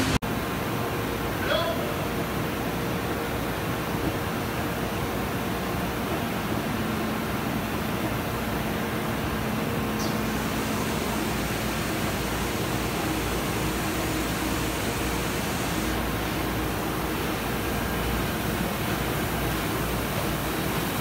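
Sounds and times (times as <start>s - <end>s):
printing press whirring: 0.0s - 21.0s.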